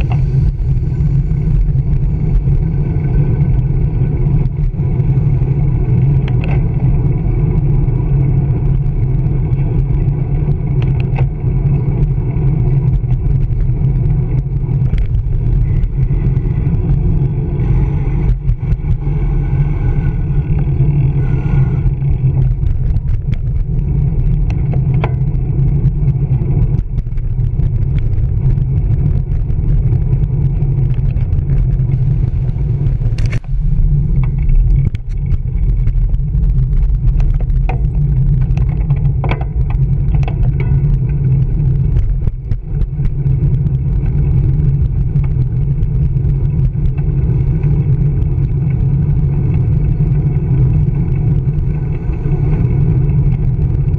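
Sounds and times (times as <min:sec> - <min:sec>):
road noise: 0:00.0 - 0:53.9
wind rumble: 0:00.0 - 0:53.9.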